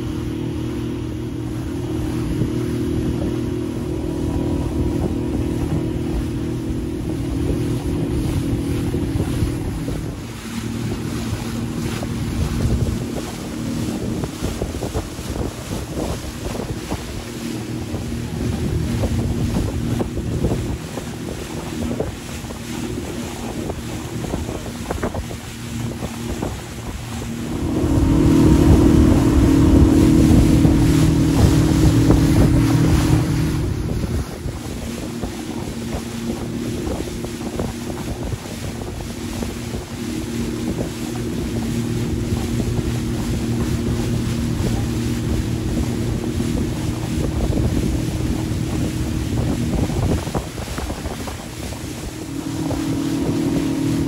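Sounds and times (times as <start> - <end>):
motorboat engine running: 0.0 - 54.0
water rushing past hull: 0.0 - 54.0
wind buffeting microphone: 0.0 - 54.0.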